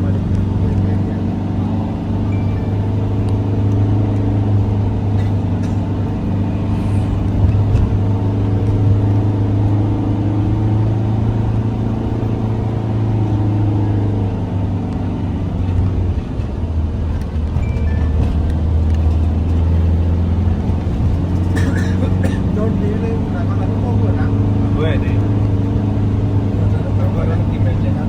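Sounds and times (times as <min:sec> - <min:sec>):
car engine running: 0:00.0 - 0:28.0
road noise: 0:00.0 - 0:28.0.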